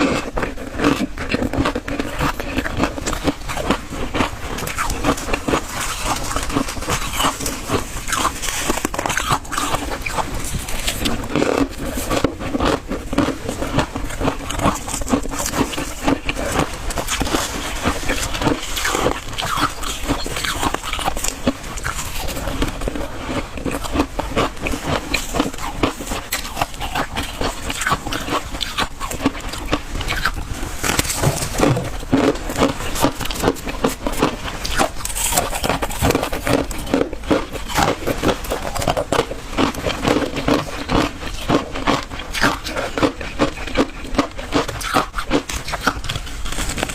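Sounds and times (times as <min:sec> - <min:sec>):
person crunching ice: 0:00.0 - 0:46.9.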